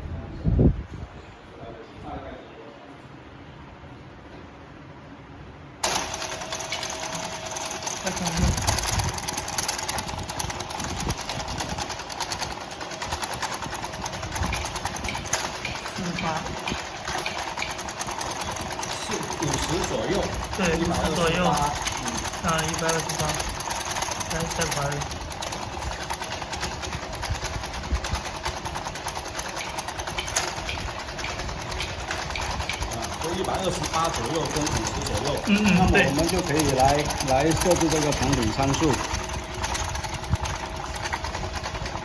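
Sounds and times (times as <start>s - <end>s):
conveyor line clicking rattle: 5.8s - 42.0s
rapid mechanical clatter: 5.8s - 42.0s
low machine rumble: 6.0s - 42.0s.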